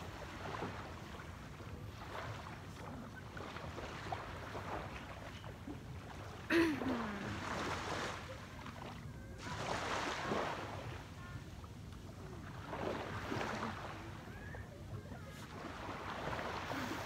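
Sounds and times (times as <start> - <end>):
waves: 0.0 - 17.0.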